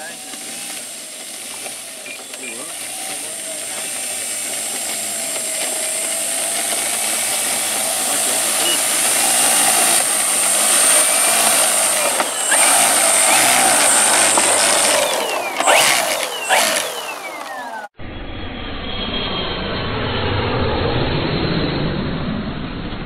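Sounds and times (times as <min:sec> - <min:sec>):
model plane engine and propeller: 0:00.0 - 0:23.0.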